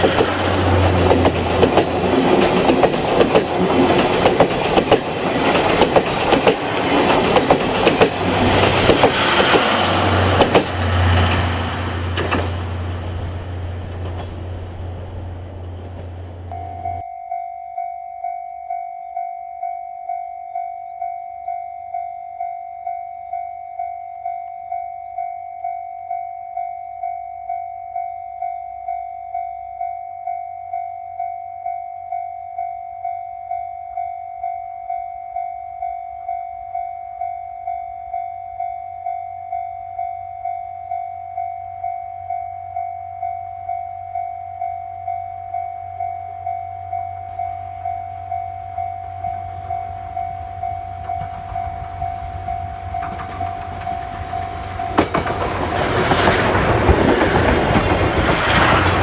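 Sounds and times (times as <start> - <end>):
level crossing warning bell: 0.0 - 55.6.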